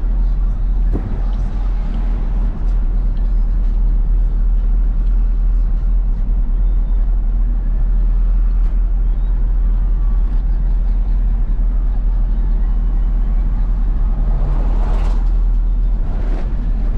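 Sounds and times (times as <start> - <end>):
road noise: 0.0 - 16.9
truck diesel engine rumble: 0.0 - 16.9.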